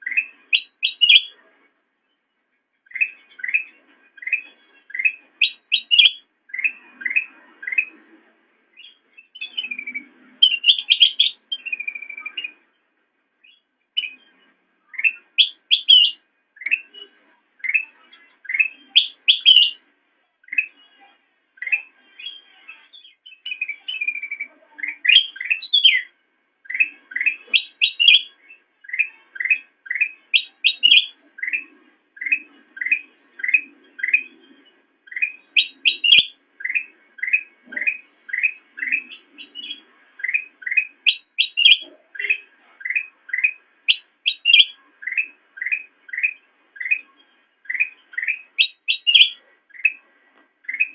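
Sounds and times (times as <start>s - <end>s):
bulbul singing chirps and whistles: 0.0s - 1.4s, 2.8s - 8.0s, 8.8s - 12.7s, 13.4s - 19.8s, 20.4s - 50.0s, 50.6s - 50.9s.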